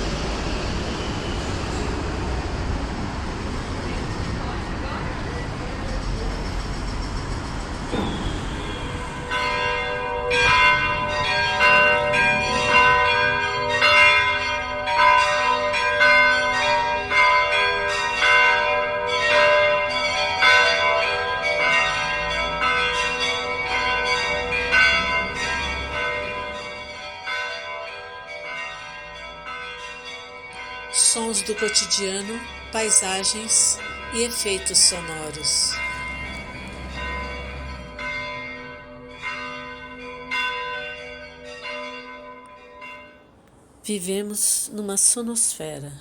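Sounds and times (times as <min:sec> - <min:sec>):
low street traffic: 0:00.0 - 0:46.0
bells ringing: 0:07.8 - 0:46.0.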